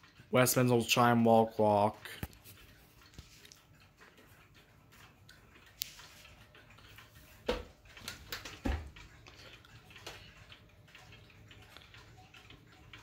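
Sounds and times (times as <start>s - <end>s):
wall clocks ticking: 0.0s - 13.0s.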